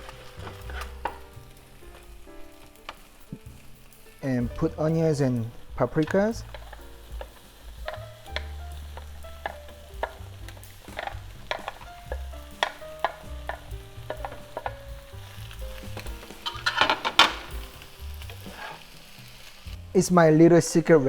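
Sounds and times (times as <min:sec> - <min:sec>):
spatula scraping a pan: 0:00.0 - 0:02.2, 0:03.6 - 0:20.0
vegetables sizzling in a frying pan: 0:00.0 - 0:20.3
soft background music: 0:00.0 - 0:21.0.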